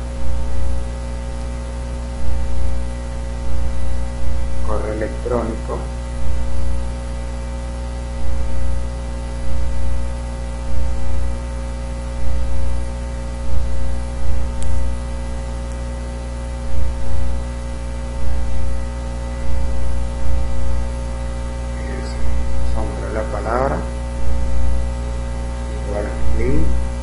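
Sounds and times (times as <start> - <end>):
soft low thumps: 0.0 - 0.9, 2.0 - 4.7, 5.9 - 15.6, 16.3 - 23.0, 23.9 - 27.0
electrical mains hum and hiss: 0.0 - 27.0.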